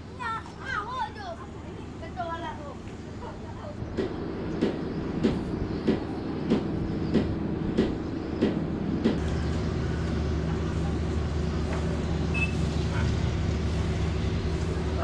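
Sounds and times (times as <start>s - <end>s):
engine running: 1.4s - 15.0s.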